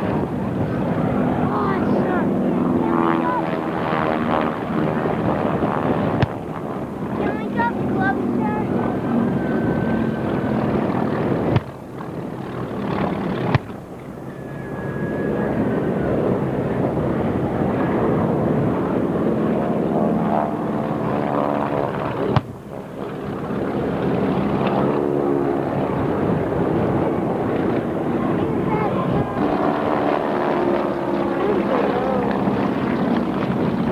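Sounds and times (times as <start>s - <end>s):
propeller airplane engine: 0.0s - 33.9s.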